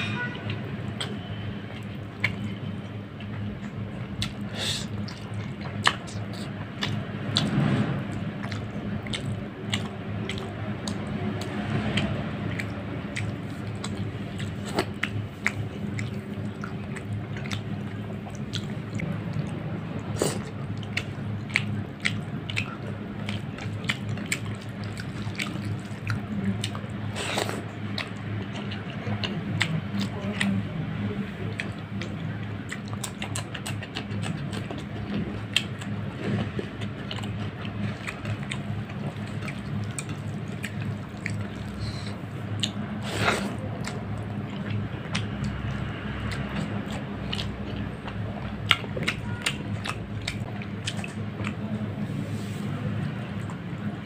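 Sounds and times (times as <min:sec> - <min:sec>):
steady low hum: 0:00.0 - 0:54.0
wet chewing: 0:00.5 - 0:54.0
lip smacking: 0:00.9 - 0:07.6, 0:08.4 - 0:30.6, 0:31.3 - 0:52.0.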